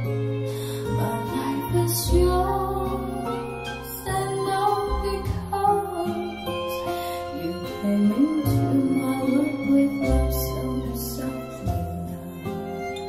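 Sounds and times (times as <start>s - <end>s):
pop song through speakers: 0.0s - 13.0s.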